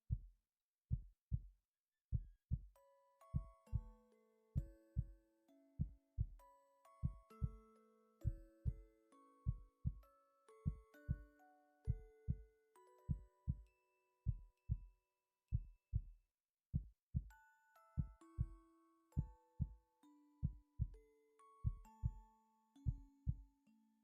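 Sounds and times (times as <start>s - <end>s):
soft chiming musical notes: 2.8s - 15.9s, 17.3s - 24.0s.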